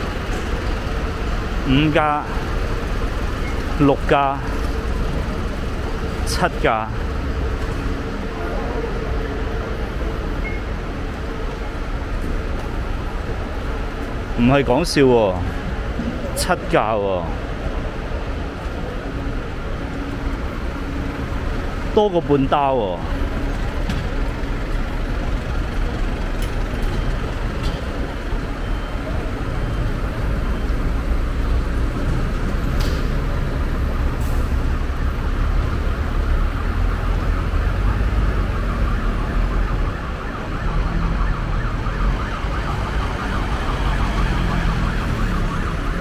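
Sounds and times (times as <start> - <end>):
emergency siren: 0.0 - 46.0
heavy diesel engines rumbling: 0.0 - 46.0.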